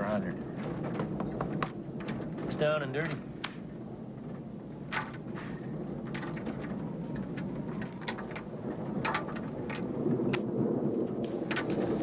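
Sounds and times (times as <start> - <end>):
wind and thunder rumble: 0.0 - 12.0.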